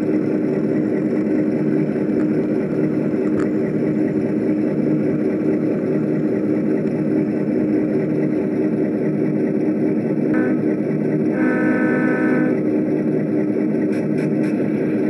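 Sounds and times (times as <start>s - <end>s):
model train hum and rumble: 0.0s - 15.0s.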